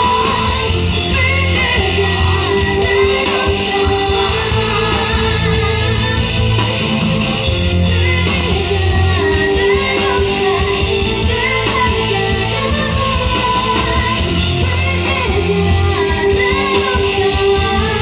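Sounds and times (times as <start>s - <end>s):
person singing: 0.0s - 6.9s, 7.8s - 18.0s
distorted guitars: 0.0s - 18.0s
drums: 0.0s - 18.0s.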